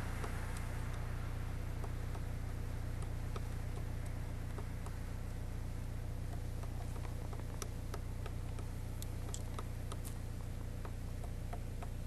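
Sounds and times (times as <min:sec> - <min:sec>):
sharp clicks: 0:00.0 - 0:01.1, 0:01.7 - 0:12.0
steady low hum: 0:00.0 - 0:12.0.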